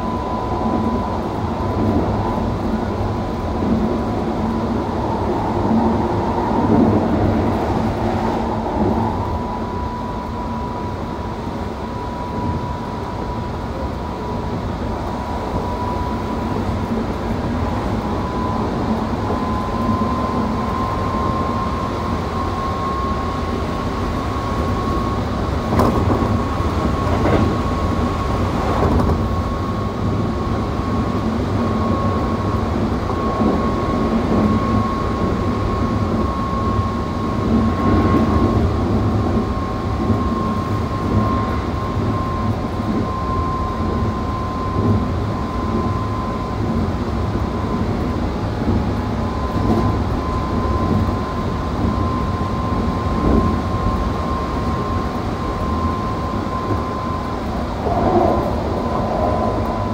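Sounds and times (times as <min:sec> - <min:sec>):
high electric whine: 0:00.0 - 0:59.9
train wheels rumbling on track: 0:00.0 - 0:59.9.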